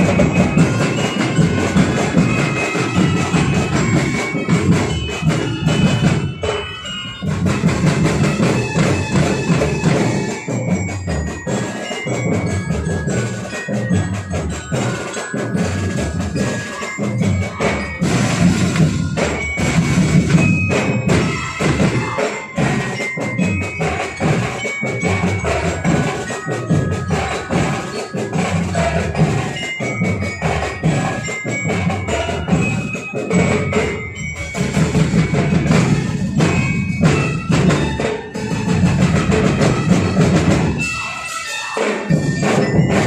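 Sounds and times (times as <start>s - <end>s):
steady drumbeat: 0.0s - 41.2s, 41.8s - 43.0s
glockenspiel melody: 0.0s - 43.0s.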